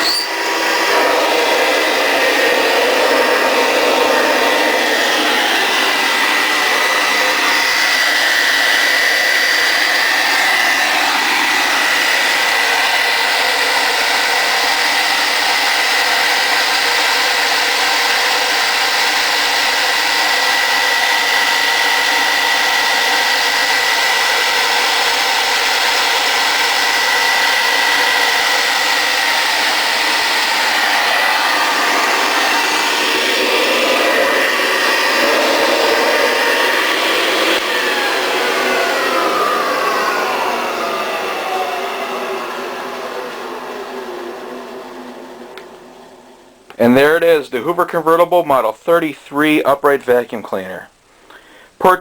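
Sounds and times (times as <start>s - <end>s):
vacuum cleaner running: 0.0s - 47.1s.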